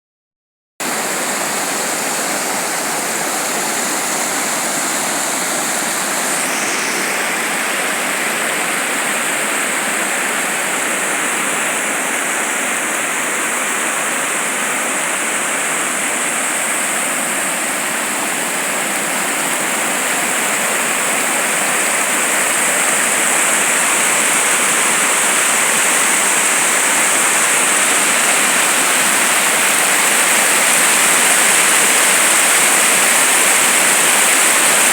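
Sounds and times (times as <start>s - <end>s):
heavy rain falling: 0.8s - 34.9s.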